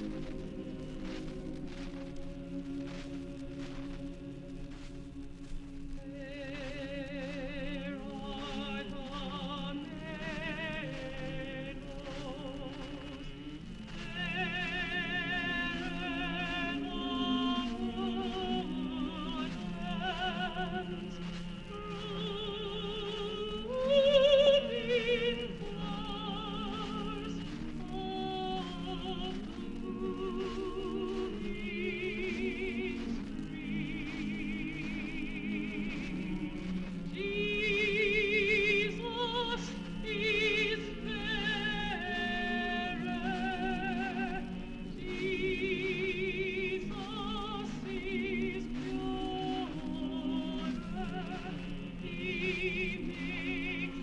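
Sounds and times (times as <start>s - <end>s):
choir singing held notes: 0.0s - 54.0s.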